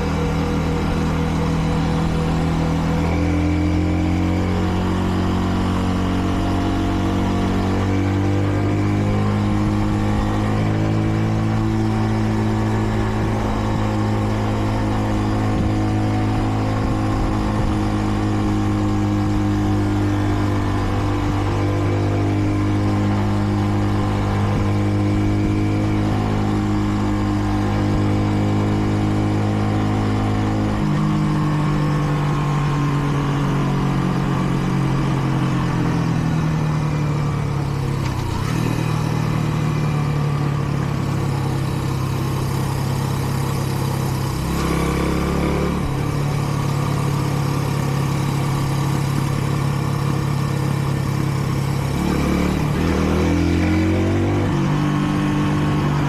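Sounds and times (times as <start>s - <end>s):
motorcycle engine running: 0.0s - 56.0s
road and wind noise: 0.0s - 56.0s.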